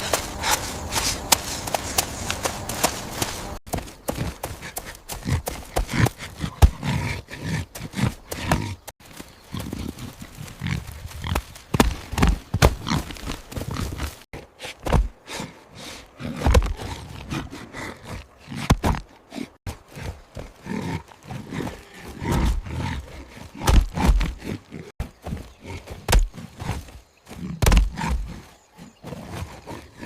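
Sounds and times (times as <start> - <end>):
animal grunts and roars: 3.4 - 30.0.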